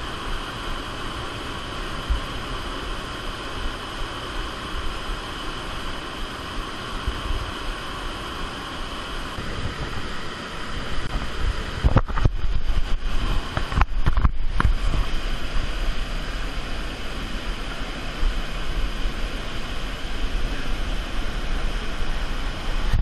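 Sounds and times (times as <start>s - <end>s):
water cascading down a shaft: 0.0s - 23.0s.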